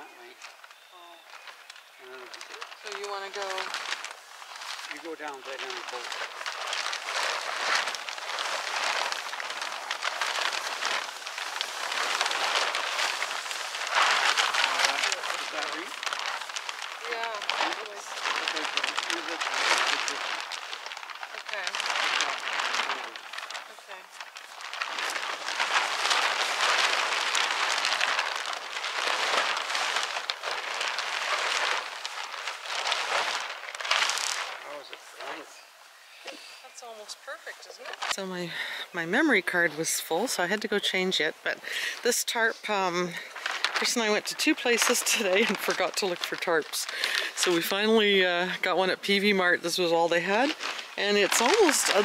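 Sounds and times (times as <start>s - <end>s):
tarp rustling and crinkling: 0.0s - 52.0s.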